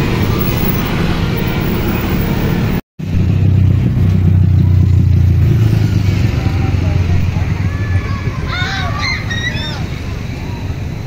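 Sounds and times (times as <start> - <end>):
bus driving past: 0.0 - 11.0
deep bus engine drone: 0.0 - 11.0
motorcycle and car engines: 0.0 - 11.0.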